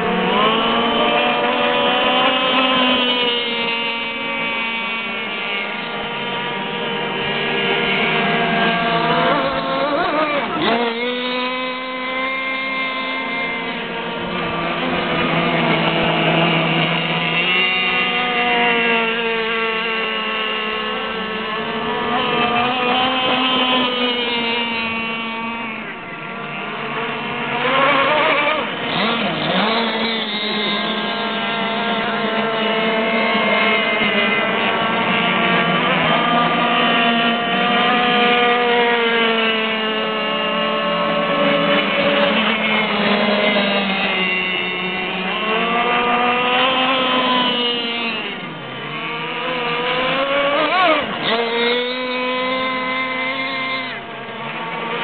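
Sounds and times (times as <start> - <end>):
model boat engines at high revs: 0.0 - 55.0.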